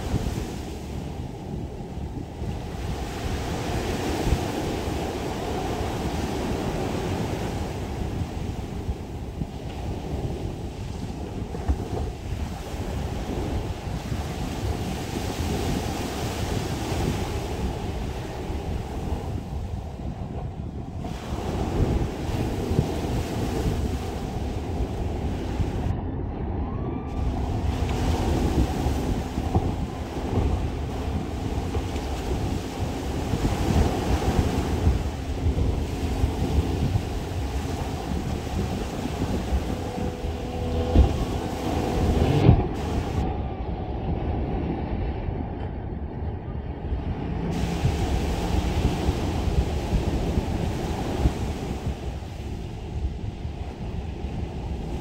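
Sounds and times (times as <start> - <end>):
small waves breaking on shore: 0.0 - 20.1, 20.9 - 25.9, 27.1 - 43.2, 47.2 - 55.0
wind rumbling on microphone: 0.0 - 55.0.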